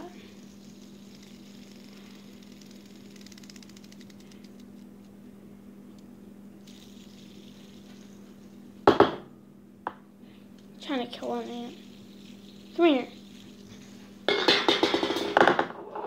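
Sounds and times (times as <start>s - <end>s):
fidget spinner whirring: 0.0s - 5.2s, 5.9s - 8.8s, 10.5s - 15.5s.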